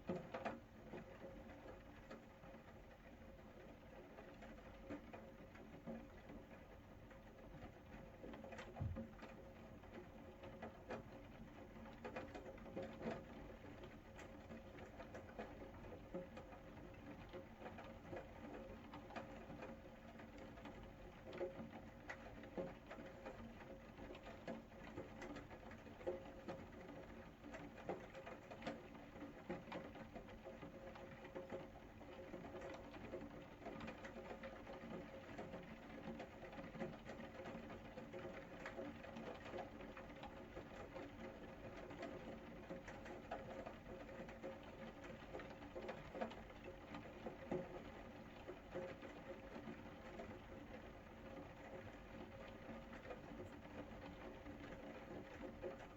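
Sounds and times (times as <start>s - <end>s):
rain pattering and dripping: 0.0s - 55.9s.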